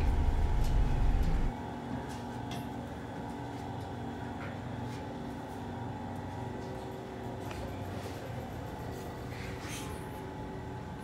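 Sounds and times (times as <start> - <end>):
conveyor belt humming: 0.0 - 11.0.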